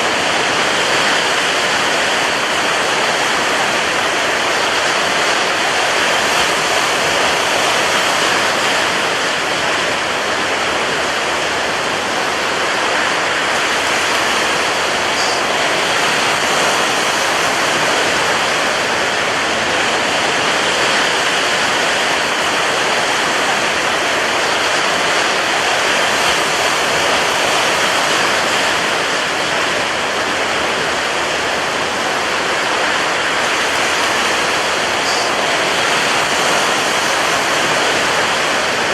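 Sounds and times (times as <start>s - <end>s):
rough sea surf rushing: 0.0s - 38.9s.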